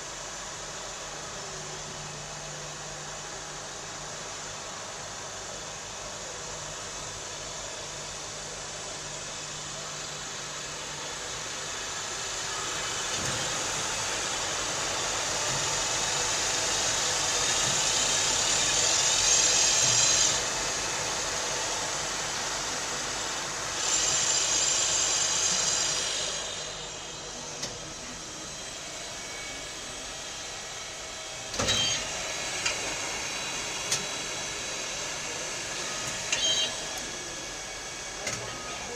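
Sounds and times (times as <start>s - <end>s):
lathe running with mechanical hiss: 0.0s - 38.9s.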